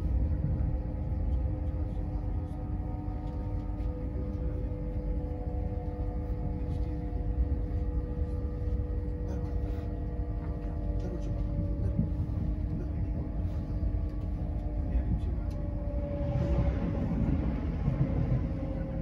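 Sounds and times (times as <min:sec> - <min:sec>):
train drive droning hum: 0:00.0 - 0:19.0
train wheels rumbling on track: 0:00.0 - 0:19.0.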